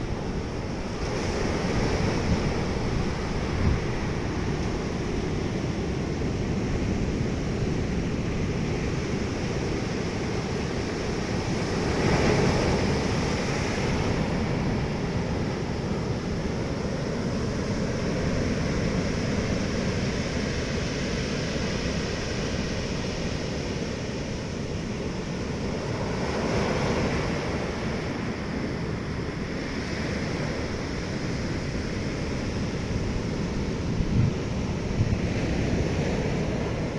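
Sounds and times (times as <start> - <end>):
wind on microphone: 0.0 - 36.9.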